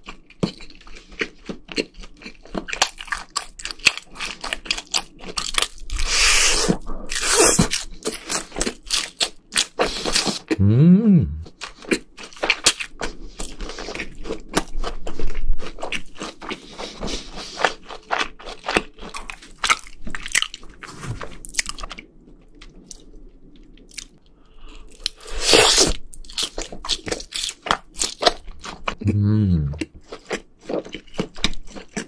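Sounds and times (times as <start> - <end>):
crunching of crispy fried food: 0.0 - 10.5, 11.5 - 29.1, 29.7 - 32.0.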